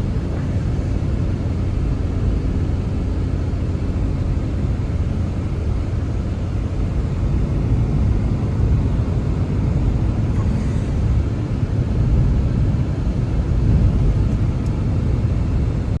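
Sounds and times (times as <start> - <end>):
blizzard wind rumble: 0.0 - 16.0.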